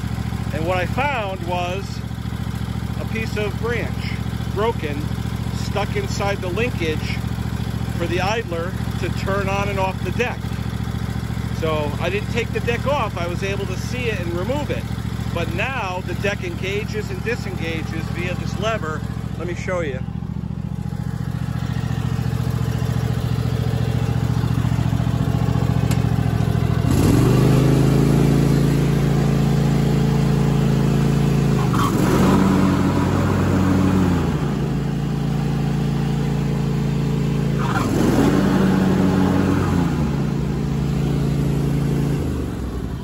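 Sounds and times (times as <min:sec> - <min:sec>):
riding mower engine running: 0:00.0 - 0:43.0.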